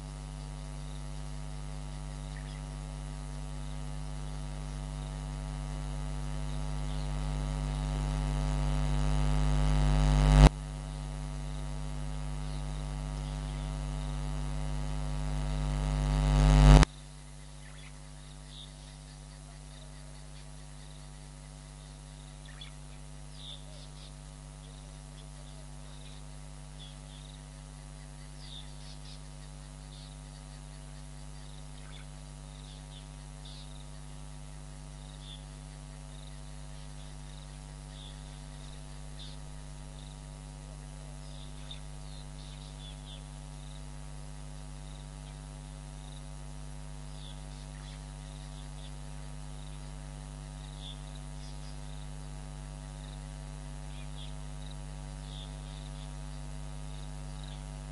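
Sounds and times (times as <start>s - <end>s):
electrical mains hum: 0.0s - 57.9s.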